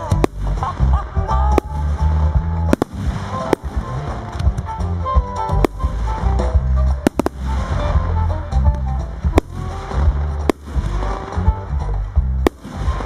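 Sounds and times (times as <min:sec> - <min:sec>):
firework shells bursting: 0:00.0 - 0:13.0
loud music with heavy bass: 0:00.0 - 0:13.0.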